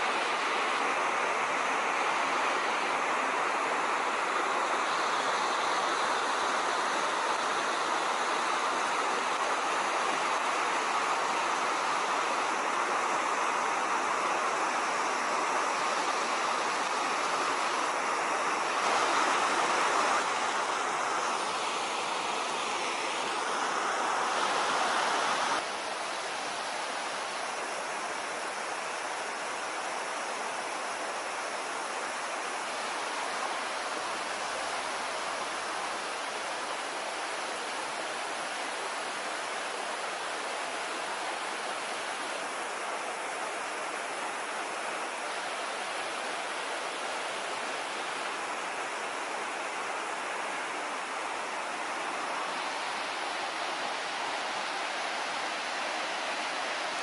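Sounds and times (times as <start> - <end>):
river rapids roaring: 0.0 - 57.0.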